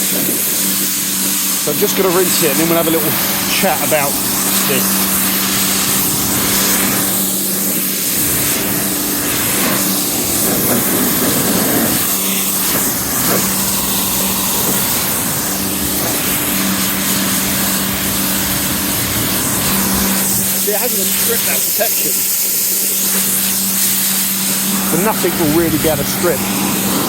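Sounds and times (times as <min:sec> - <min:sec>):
pressure washer motor hum: 0:00.0 - 0:27.0
water spray hissing: 0:00.0 - 0:27.0.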